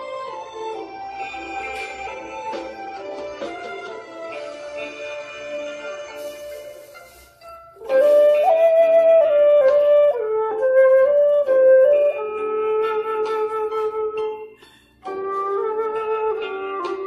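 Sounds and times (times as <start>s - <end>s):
bamboo flute melody: 0.0s - 17.0s.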